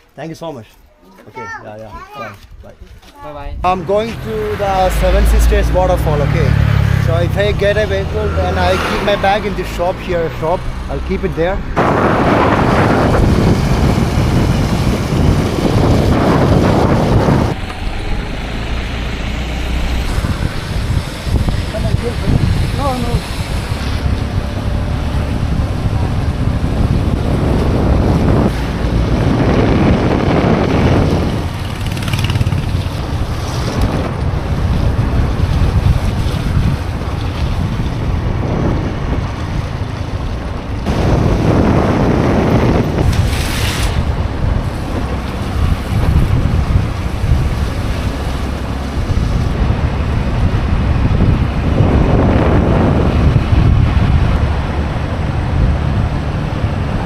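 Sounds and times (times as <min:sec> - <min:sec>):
strong wind buffeting microphone: 0:02.3 - 0:57.0.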